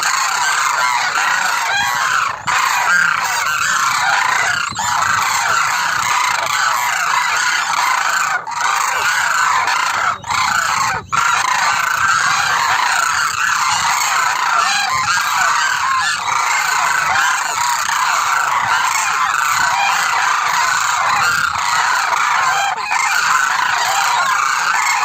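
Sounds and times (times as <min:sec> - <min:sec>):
cranes trumpeting in chorus: 0:00.0 - 0:25.0.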